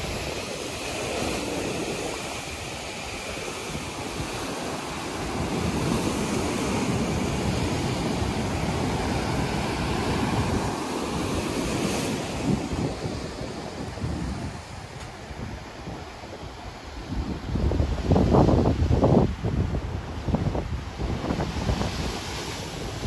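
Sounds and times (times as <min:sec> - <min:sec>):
surf breaking over rocks: 0:00.0 - 0:23.0
wind buffeting microphone: 0:00.0 - 0:23.0.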